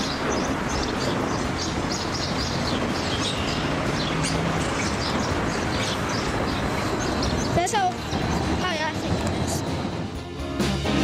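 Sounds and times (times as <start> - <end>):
small birds chirping: 0.0 - 9.8
steady low rumbling: 0.0 - 11.0.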